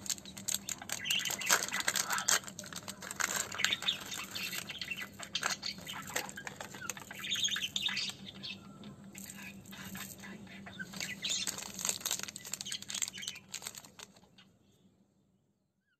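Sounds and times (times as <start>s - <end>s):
plastic wrapper crinkling: 0.0s - 8.2s, 9.2s - 14.4s
birds chirping faintly: 0.0s - 15.9s.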